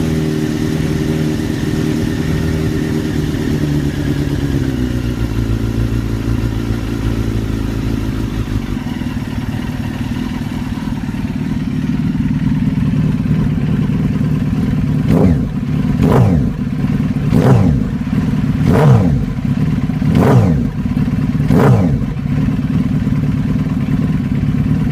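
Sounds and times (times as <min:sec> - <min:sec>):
motorcycle engine idling: 0:00.0 - 0:24.9
motorcycle engine revving: 0:00.0 - 0:24.9.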